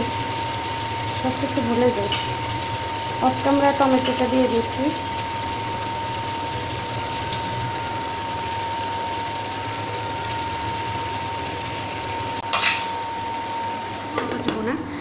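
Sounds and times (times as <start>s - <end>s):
cooling fan humming: 0.0s - 15.0s
thin steady whine: 0.0s - 15.0s
curry simmering in a pan: 0.1s - 12.3s.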